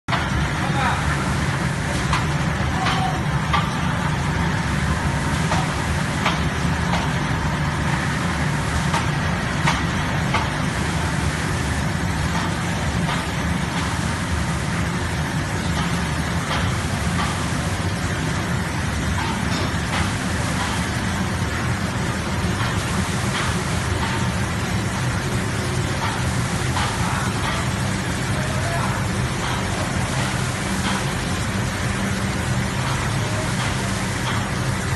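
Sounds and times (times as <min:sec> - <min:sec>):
machine hum and mechanical rush: 0:00.1 - 0:34.9.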